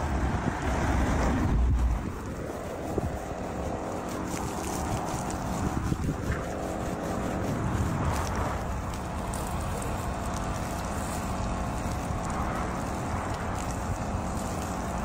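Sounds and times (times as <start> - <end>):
low rumble: 0.0 - 14.0
wind on microphone: 0.0 - 15.0.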